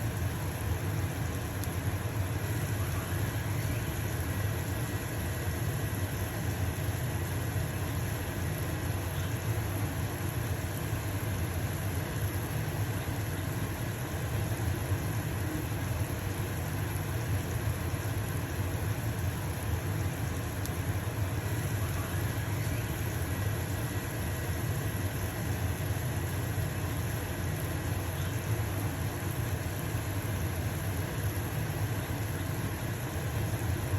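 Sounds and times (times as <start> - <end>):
pancake sizzling in a frying pan: 0.0 - 33.9
range hood fan humming: 0.0 - 33.9.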